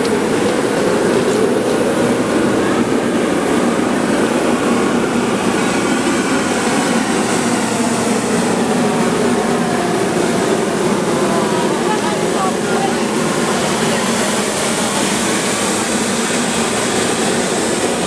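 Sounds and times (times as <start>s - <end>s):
train car mechanical hum: 0.0s - 18.0s.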